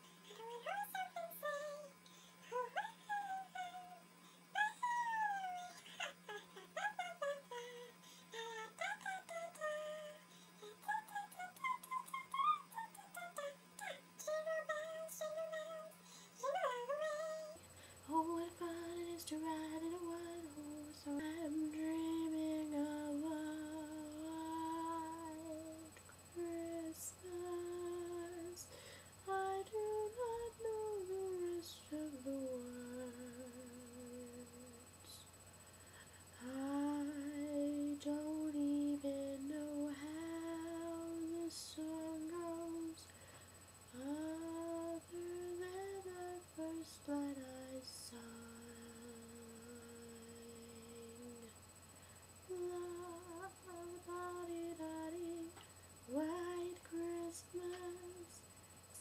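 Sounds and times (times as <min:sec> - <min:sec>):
faint electrical hum: 0:00.0 - 0:59.0
woman humming a slow tune: 0:00.0 - 0:59.0.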